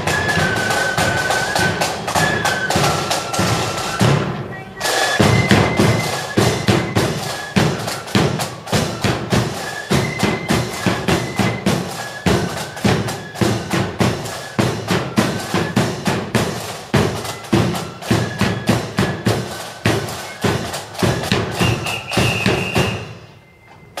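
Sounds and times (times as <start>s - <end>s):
short high notes: 0.0s - 12.8s, 17.2s - 24.0s
marching drums beating: 0.0s - 23.3s.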